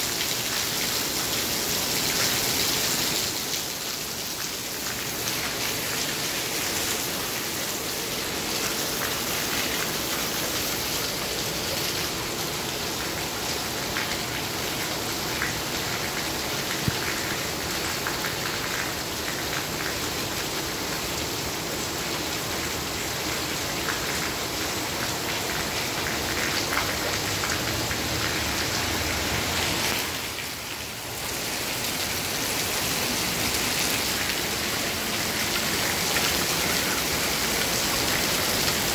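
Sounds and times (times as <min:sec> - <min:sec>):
runoff pouring onto pavement: 0:00.0 - 0:20.2, 0:23.8 - 0:38.9
rain on a canopy roof: 0:00.0 - 0:38.9.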